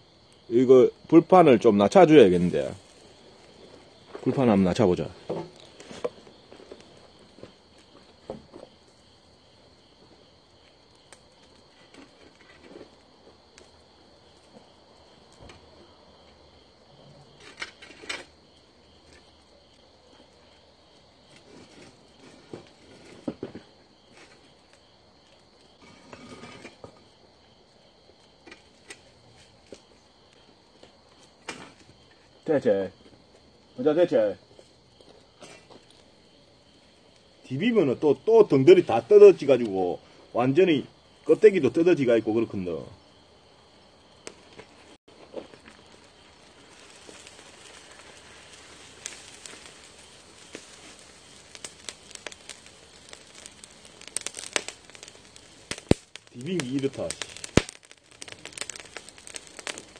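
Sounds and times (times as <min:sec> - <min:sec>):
wood fire pops and crackles: 0:00.0 - 0:33.8, 0:34.4 - 0:40.2, 0:43.4 - 0:59.9
insect chirring: 0:00.0 - 0:59.9.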